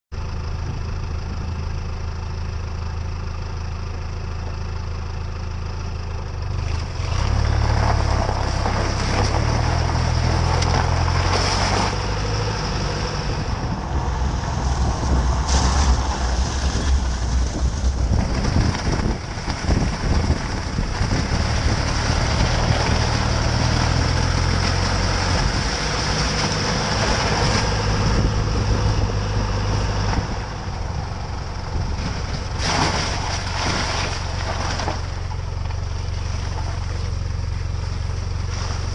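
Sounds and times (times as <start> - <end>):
vehicle engine running: 0.1 - 38.9
tires on slushy road: 0.2 - 38.9.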